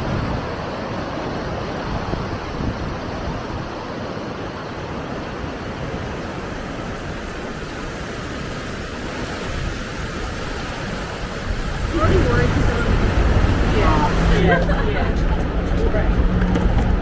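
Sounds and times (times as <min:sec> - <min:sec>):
river water rushing over dam: 0:00.0 - 0:17.0.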